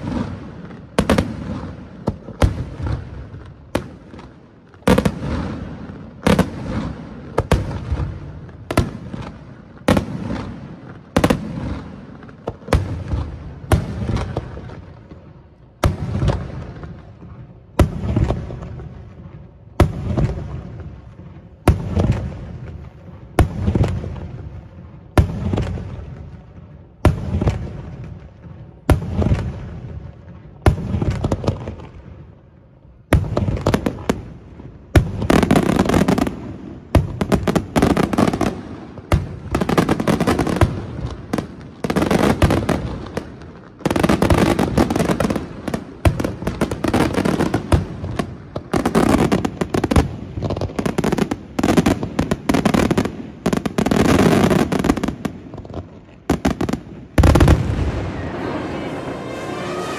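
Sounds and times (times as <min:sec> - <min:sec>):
fireworks crackling: 0:00.0 - 0:32.0, 0:33.1 - 0:59.9.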